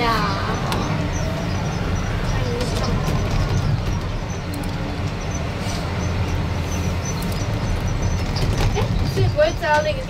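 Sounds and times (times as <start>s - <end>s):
monorail car rumbling on track: 0.0s - 10.0s.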